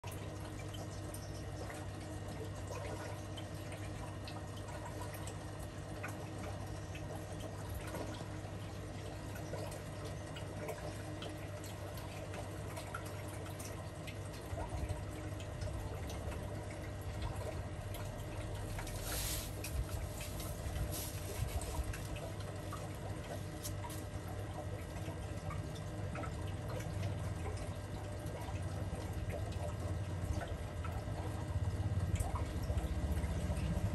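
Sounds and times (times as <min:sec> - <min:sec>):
aquarium water bubbling: 0:00.0 - 0:33.9
small water drips: 0:00.0 - 0:33.9.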